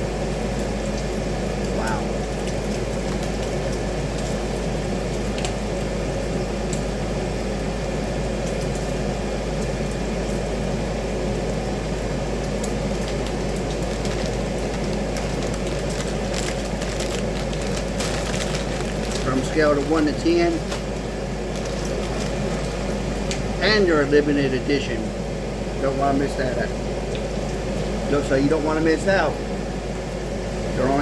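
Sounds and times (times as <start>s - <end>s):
bacon sizzling in a frying pan: 0.0s - 31.0s.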